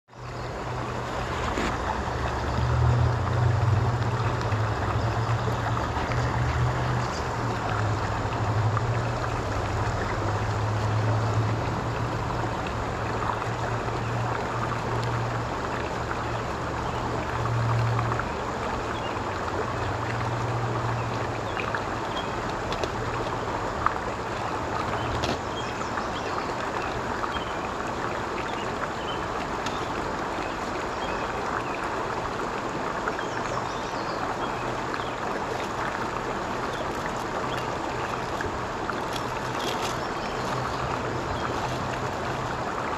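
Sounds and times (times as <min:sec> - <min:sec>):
creek water babbling over stones: 0:00.1 - 0:42.9.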